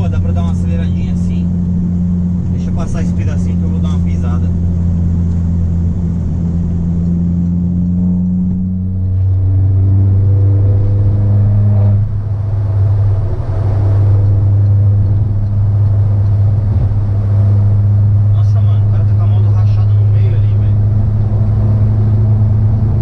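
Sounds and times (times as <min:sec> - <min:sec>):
car engine droning: 0:00.0 - 0:23.0.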